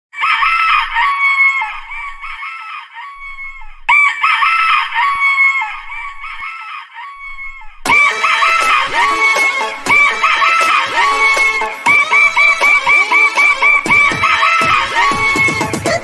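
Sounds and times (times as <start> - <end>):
rooster crowing: 0.2 - 15.7.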